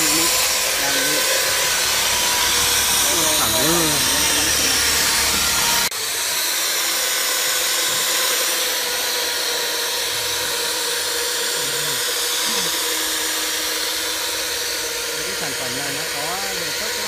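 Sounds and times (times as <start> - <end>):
electric plastering float motor whine: 0.0 - 17.0.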